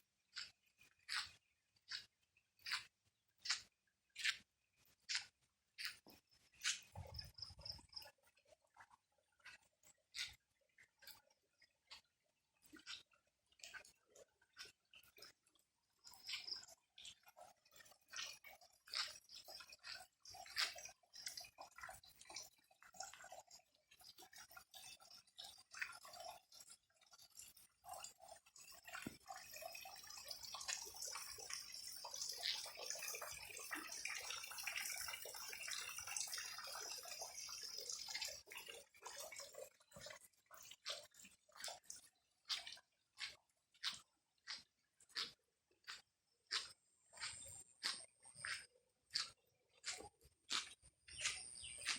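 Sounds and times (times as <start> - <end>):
water dripping: 0.2 - 51.9.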